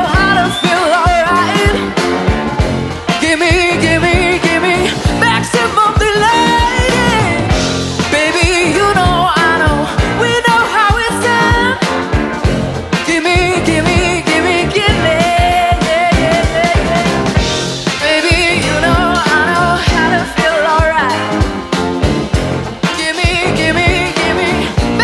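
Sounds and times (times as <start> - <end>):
person singing lead vocal: 0.0 - 12.3, 12.9 - 21.9, 22.7 - 25.0
live rock band playing: 0.0 - 25.0.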